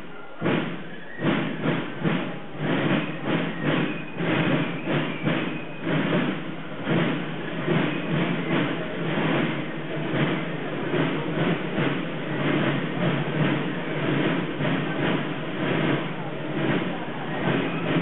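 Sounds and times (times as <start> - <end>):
marching drums: 0.0 - 18.0.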